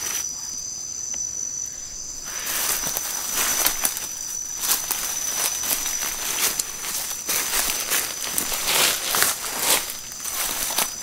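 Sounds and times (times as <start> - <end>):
night insects trilling: 0.0 - 11.0
brush rustling: 1.8 - 11.0
footsteps crunching undergrowth: 1.8 - 11.0.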